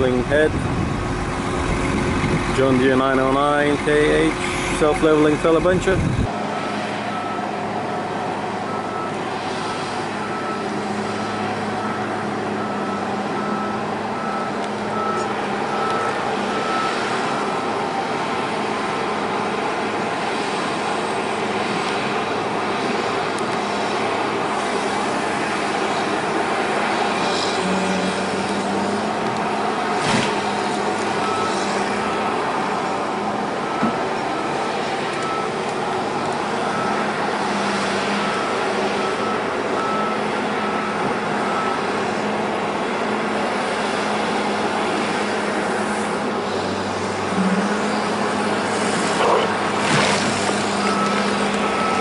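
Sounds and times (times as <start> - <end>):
diesel engine humming: 0.0 - 52.0.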